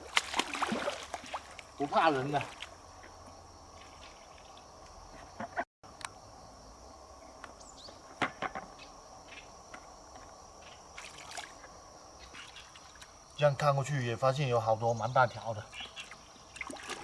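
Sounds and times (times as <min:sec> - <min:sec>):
insect chirring: 0:00.0 - 0:17.0.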